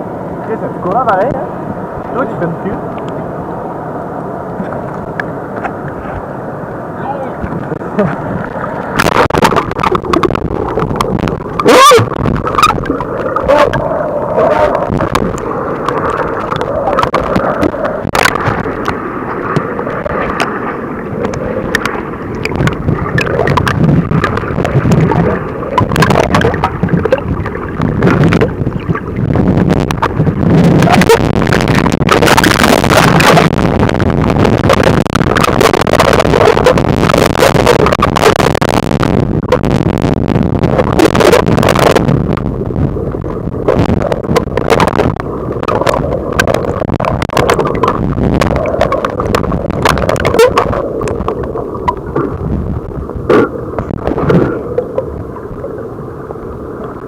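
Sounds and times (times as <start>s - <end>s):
muffled underwater river gurgling: 0.0s - 57.0s
bubbling: 7.3s - 57.0s.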